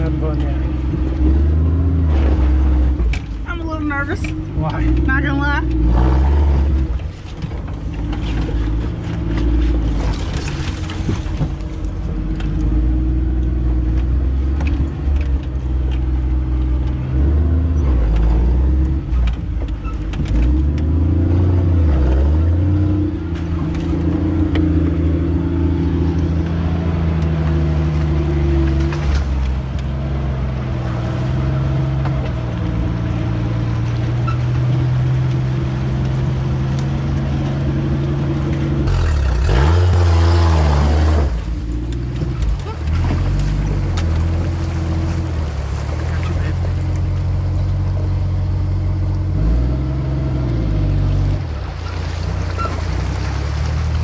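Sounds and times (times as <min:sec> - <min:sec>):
engine running at low revs: 0:00.0 - 0:54.0
tyre rushing through water: 0:00.0 - 0:54.0.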